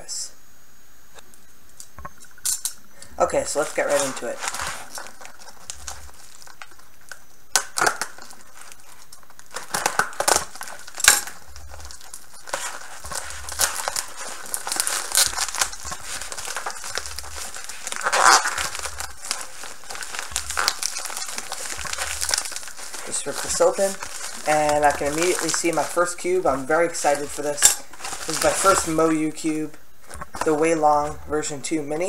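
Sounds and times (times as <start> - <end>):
plastic mailer crinkling and tearing: 1.8 - 32.0.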